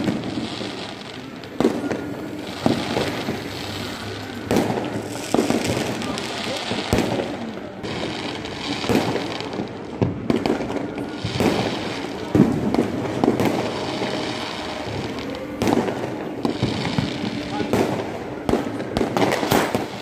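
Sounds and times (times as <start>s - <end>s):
firecrackers popping: 0.0s - 20.0s
firework bangs: 0.0s - 20.0s.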